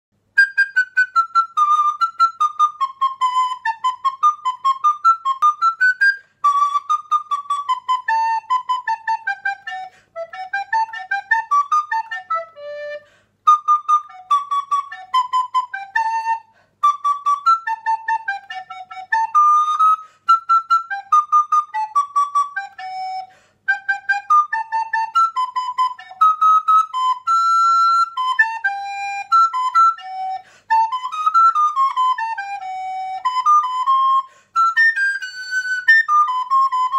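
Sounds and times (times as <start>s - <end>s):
recorder playing lively melody: 0.4s - 36.9s.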